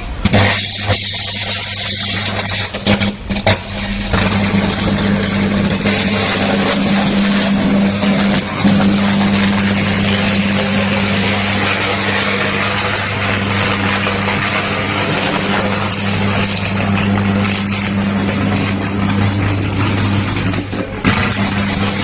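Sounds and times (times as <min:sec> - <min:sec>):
loud electric buzz: 0:00.0 - 0:22.0.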